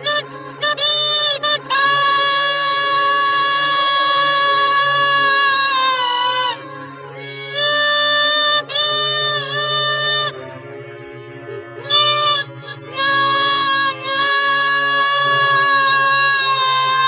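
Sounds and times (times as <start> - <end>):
cartoon horn-like honks: 0.0 - 6.6, 7.2 - 10.4, 11.8 - 17.0.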